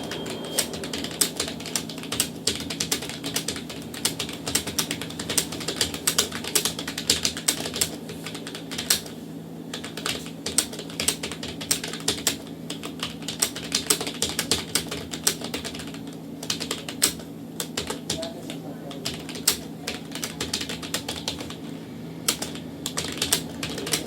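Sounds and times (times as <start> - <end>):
fast keyboard typing: 0.0 - 24.0.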